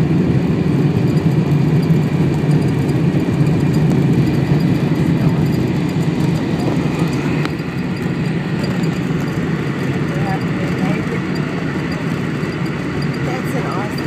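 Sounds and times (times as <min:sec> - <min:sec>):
airliner cabin rumble on runway: 0:00.0 - 0:14.0.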